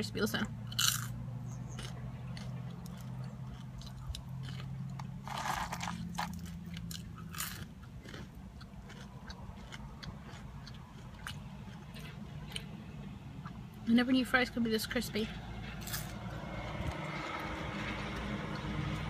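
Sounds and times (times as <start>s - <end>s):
crunchy fries chewing: 0.6s - 13.8s, 15.3s - 19.0s.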